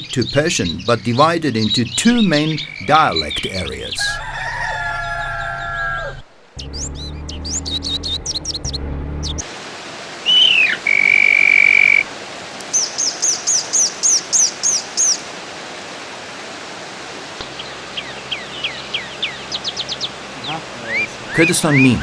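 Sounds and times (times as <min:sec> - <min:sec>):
songbirds calling: 0:00.0 - 0:09.5, 0:10.2 - 0:15.4, 0:17.4 - 0:22.0.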